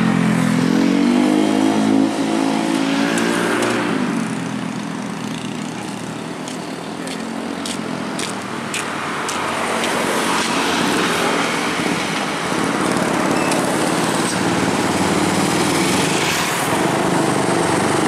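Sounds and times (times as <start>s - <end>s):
motorcycle engines passing: 0.0s - 18.0s.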